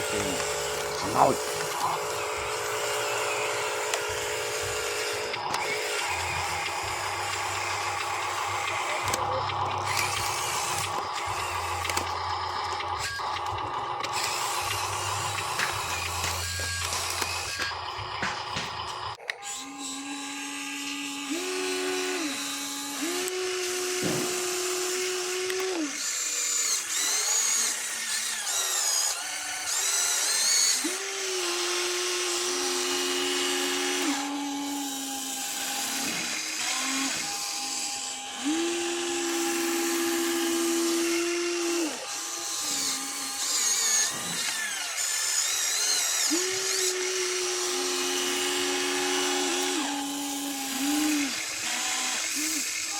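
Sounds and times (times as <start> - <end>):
high gear whine: 0.0 - 52.9
toy electric motors whining: 0.0 - 52.9.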